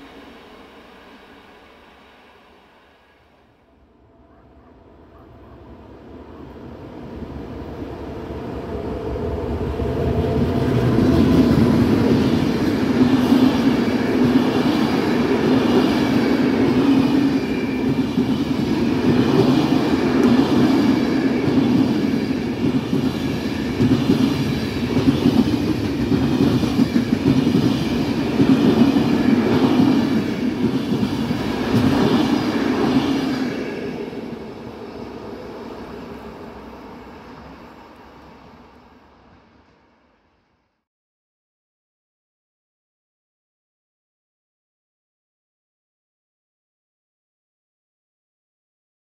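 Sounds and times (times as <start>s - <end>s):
freight train rumbling past: 0.0s - 40.2s.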